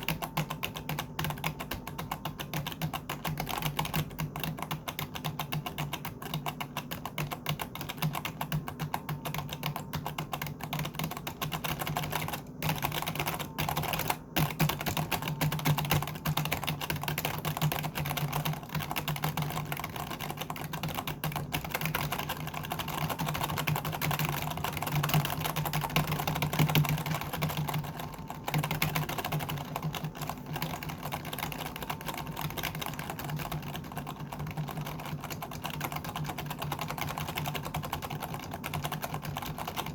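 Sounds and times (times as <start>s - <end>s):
fast typing on keyboard: 0.0s - 39.9s
low steady hum: 0.0s - 39.9s.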